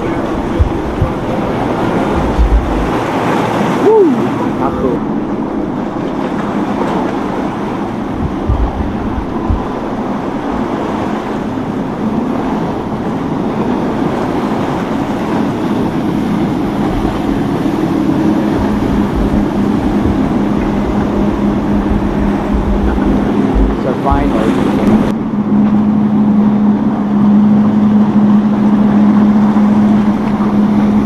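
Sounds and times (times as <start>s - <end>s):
motorboat engines humming: 0.0s - 31.0s
water rushing: 0.0s - 31.0s
wind buffeting microphone: 0.0s - 31.0s.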